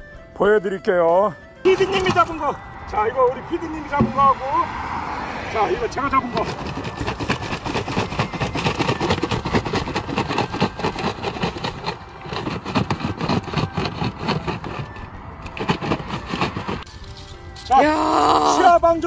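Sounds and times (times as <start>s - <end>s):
road traffic: 0.0s - 18.1s.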